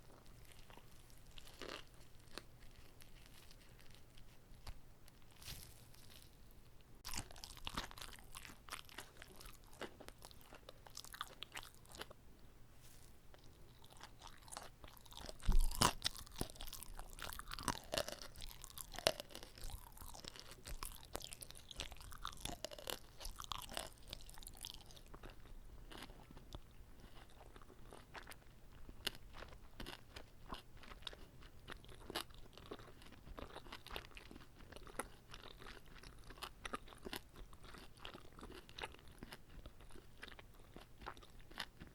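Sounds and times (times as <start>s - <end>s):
close chewing with crunches: 0.0s - 41.9s.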